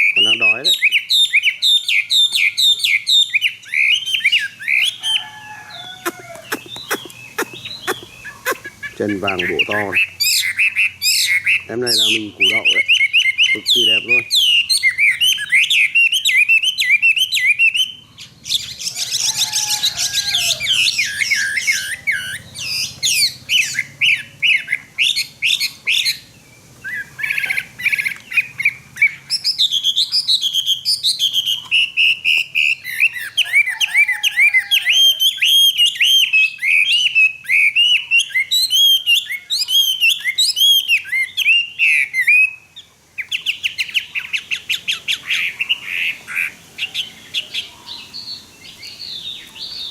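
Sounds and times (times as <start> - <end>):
bird singing whistled trills: 0.0 - 5.3, 6.4 - 46.2.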